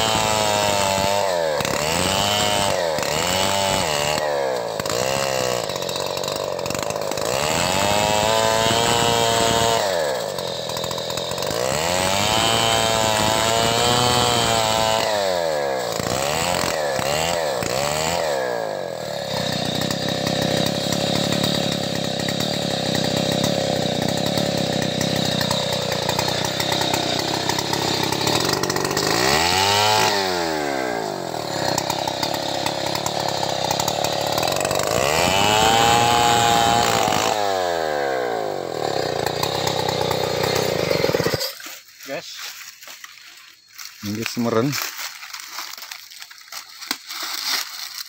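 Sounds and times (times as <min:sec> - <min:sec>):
chainsaw cutting log: 0:00.0 - 0:48.0.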